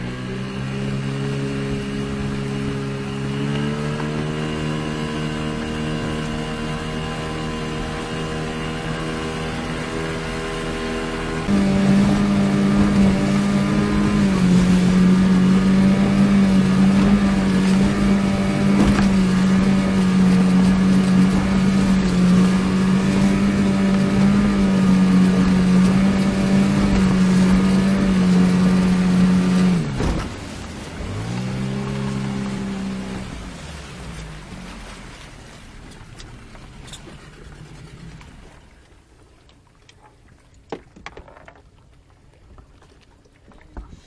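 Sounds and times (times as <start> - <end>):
outboard motor running: 0.0 - 44.0.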